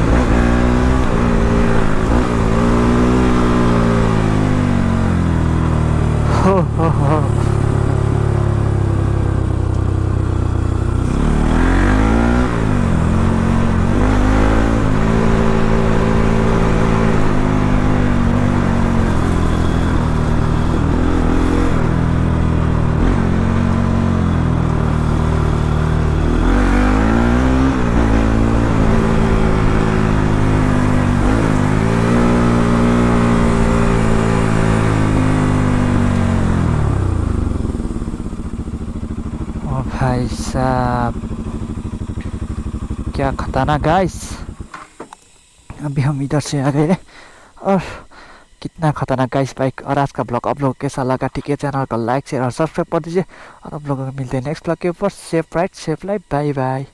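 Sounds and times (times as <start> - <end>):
motorcycle engine revving: 0.0 - 48.4.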